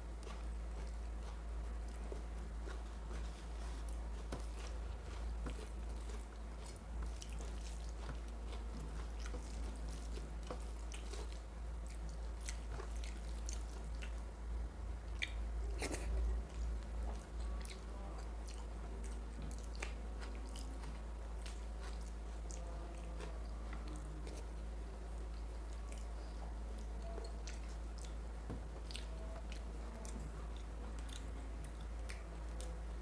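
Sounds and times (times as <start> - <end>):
chewing and mouth clicks: 0.2 - 14.4, 15.1 - 33.0.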